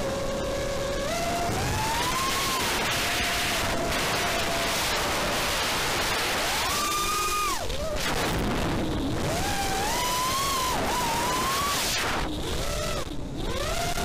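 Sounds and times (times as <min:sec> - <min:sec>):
drone motors whining: 0:00.0 - 0:14.0
wind rush: 0:01.4 - 0:14.0.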